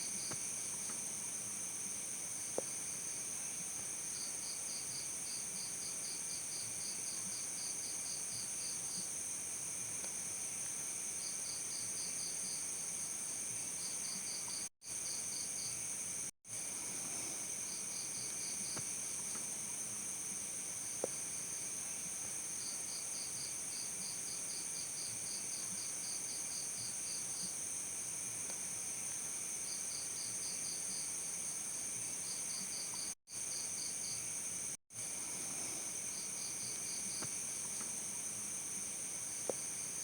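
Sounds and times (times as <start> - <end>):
rapid cricket chirps: 0.0 - 40.0.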